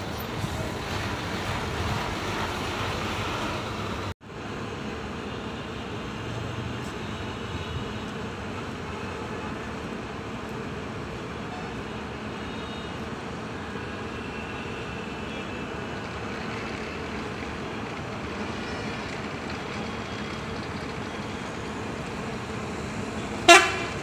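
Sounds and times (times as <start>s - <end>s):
bus engine: 0.0s - 24.0s.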